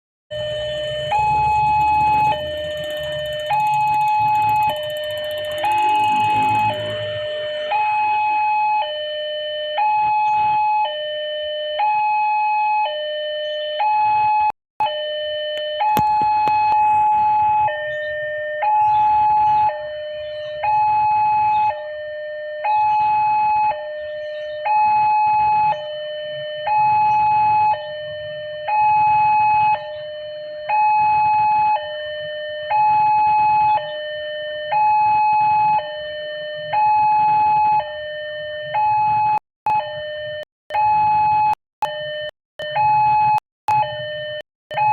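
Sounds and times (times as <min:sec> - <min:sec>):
two-tone crossing warning alarm: 0:00.3 - 0:44.9.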